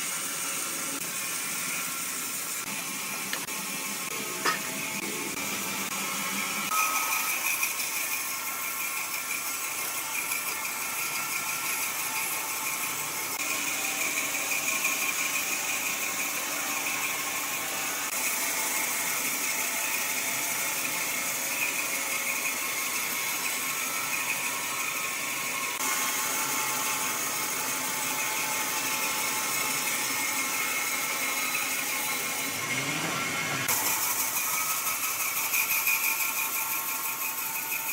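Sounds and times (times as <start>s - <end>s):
woodworking machine whining: 0.0s - 37.9s.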